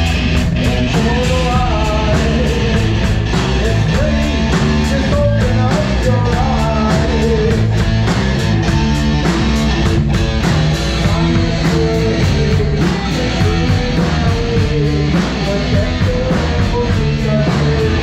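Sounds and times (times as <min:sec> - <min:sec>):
drum kit cymbal beat: 0:00.0 - 0:18.0
electric guitar: 0:00.0 - 0:18.0.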